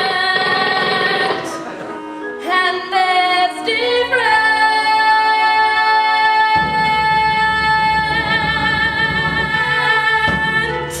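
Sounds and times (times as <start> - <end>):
musical accompaniment: 0.0 - 11.0.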